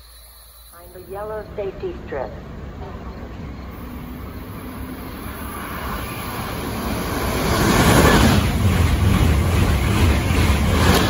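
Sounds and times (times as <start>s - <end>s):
train wheels rumbling on rail: 0.7s - 11.0s.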